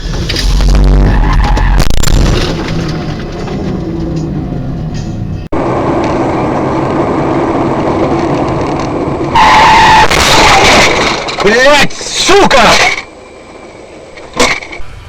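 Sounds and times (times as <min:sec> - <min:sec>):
vehicle road and engine noise: 0:00.0 - 0:15.0.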